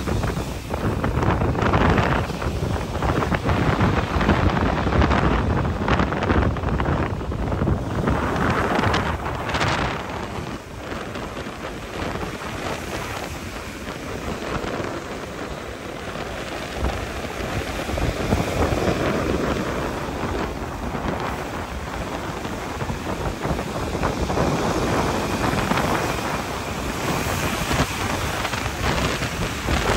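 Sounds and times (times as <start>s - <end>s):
sea waves breaking over rocks: 0.0s - 29.9s
wind rumbling on microphone: 0.0s - 29.9s.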